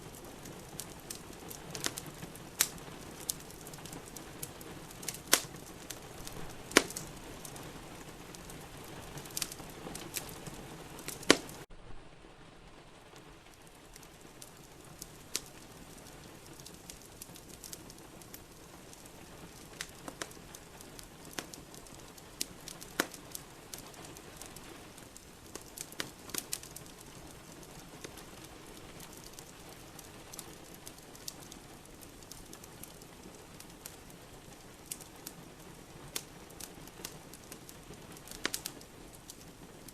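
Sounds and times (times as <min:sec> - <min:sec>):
wood fire crackling and popping: 0:00.0 - 0:11.8, 0:12.5 - 0:39.9
rain hissing: 0:00.0 - 0:39.9.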